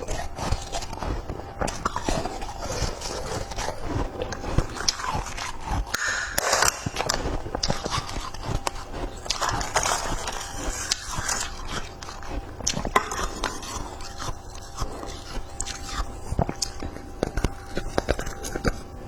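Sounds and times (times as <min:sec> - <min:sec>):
person chewing ice: 0:00.0 - 0:19.0.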